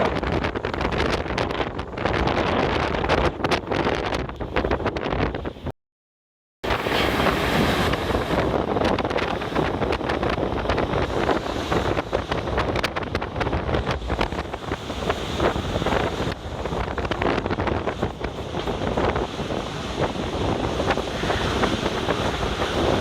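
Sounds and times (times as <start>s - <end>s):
strong wind buffeting microphone: 0.0s - 5.7s, 6.6s - 23.0s.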